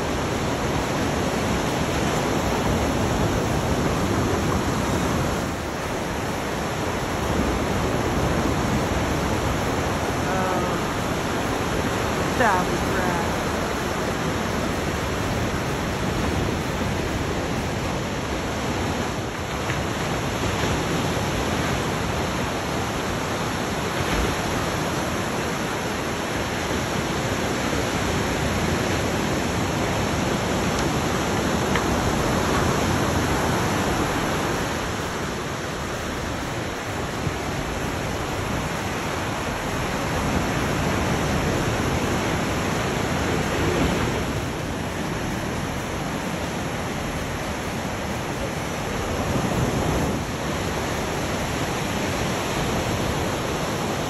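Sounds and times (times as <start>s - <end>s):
waves breaking: 0.0s - 54.0s.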